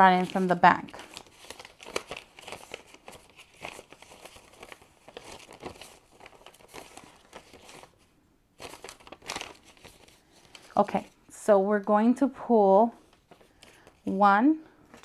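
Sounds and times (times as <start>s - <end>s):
banknotes rustling and crinkling: 0.0s - 11.4s, 12.8s - 15.0s.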